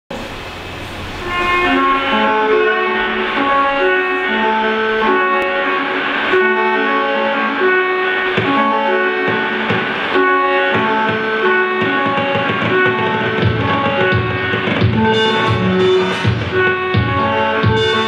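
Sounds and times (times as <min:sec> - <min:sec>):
instrumental melody: 0:00.4 - 0:18.0.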